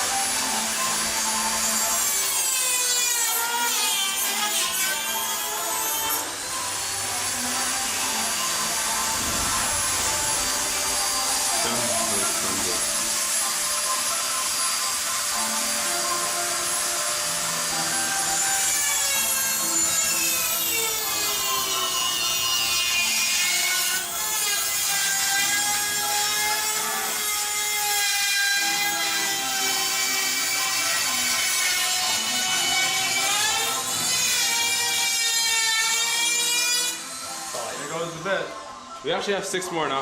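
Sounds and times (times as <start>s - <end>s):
rotary tool whining cutting metal: 0.0s - 38.9s.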